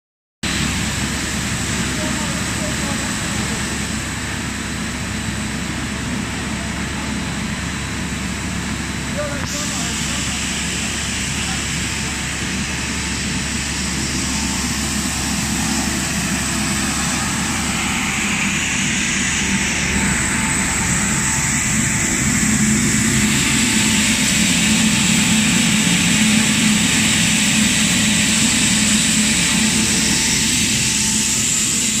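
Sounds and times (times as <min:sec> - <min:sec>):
machinery hum and hiss: 0:00.4 - 0:32.0.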